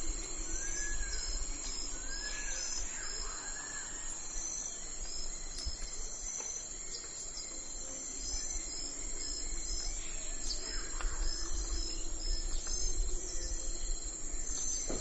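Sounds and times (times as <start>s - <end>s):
insect chorus pulsing: 0.0s - 15.0s.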